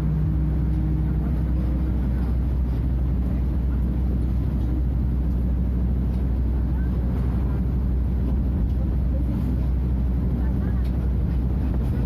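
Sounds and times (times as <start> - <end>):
diesel bus engine drone: 0.0 - 12.0.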